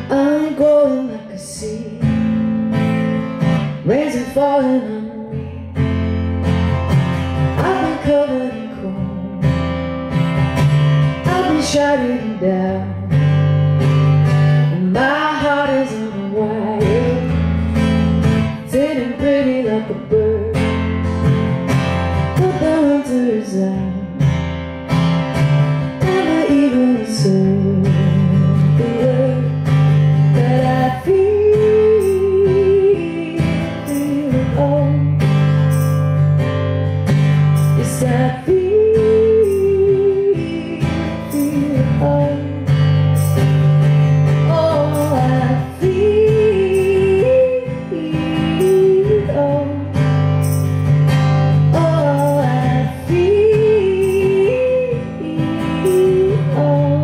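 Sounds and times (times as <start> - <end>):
woman singing: 0.0 - 36.1, 37.4 - 57.0
acoustic guitar strumming: 0.0 - 57.0.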